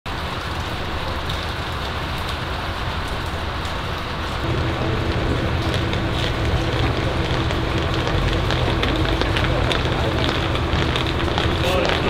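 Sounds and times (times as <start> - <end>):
steady rain falling: 0.1 - 12.0
low steady hum: 1.3 - 12.0.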